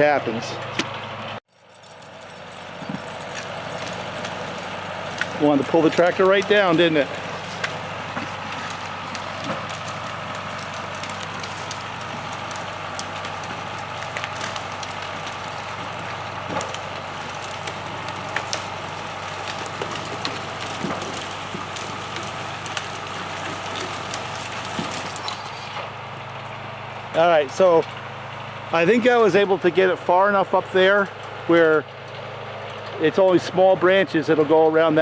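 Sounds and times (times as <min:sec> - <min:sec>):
branches crackling and snapping: 0:00.0 - 0:29.8
tractor diesel engine under load: 0:00.0 - 0:35.0
winch dragging a log: 0:00.0 - 0:35.0.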